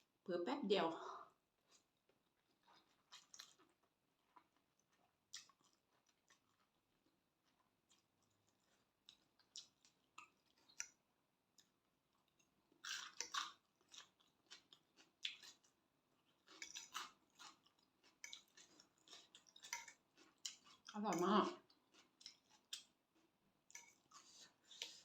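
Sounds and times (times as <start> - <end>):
person chewing food: 1.5 - 25.0.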